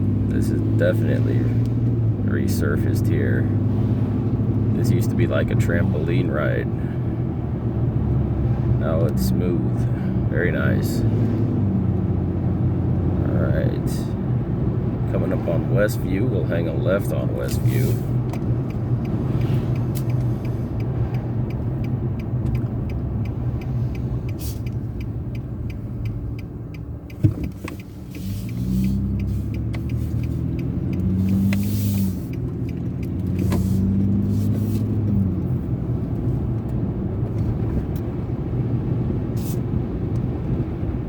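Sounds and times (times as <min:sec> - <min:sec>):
car engine and road rumble: 0:00.0 - 0:41.0.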